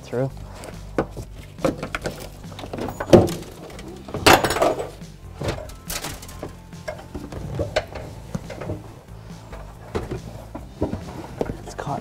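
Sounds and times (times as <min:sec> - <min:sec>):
rustling and scraping: 0:00.4 - 0:12.0.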